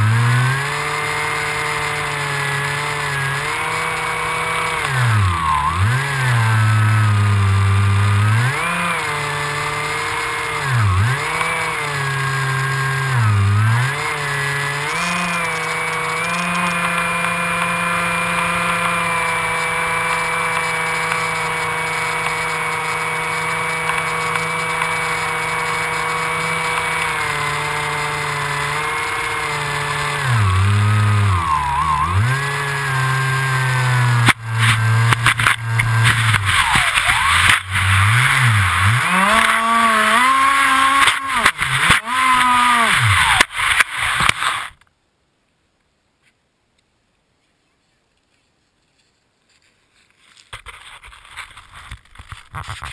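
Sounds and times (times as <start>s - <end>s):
electric motor and propeller whining: 0.0s - 44.8s.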